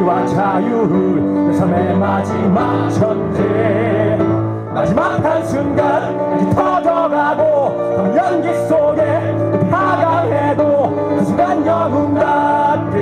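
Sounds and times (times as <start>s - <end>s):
men singing: 0.0s - 13.0s.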